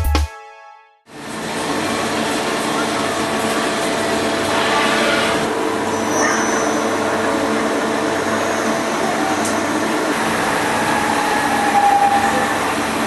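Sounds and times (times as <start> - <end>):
machinery hum and hiss: 1.2 - 13.0.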